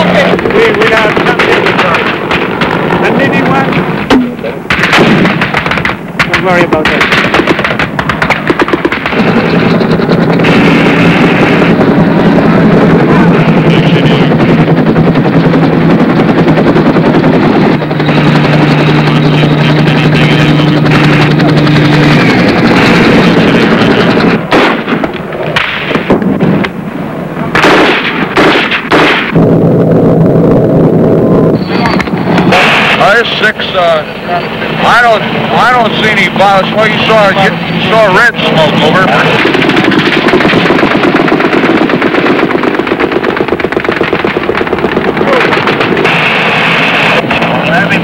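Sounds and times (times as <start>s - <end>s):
gunshots and short bursts: 0.0s - 26.7s, 27.5s - 29.5s, 32.3s - 34.0s, 34.8s - 48.0s
machine-gun fire: 0.0s - 26.7s, 27.5s - 29.7s, 32.0s - 33.2s, 36.9s - 47.6s
steady drone: 0.0s - 48.0s.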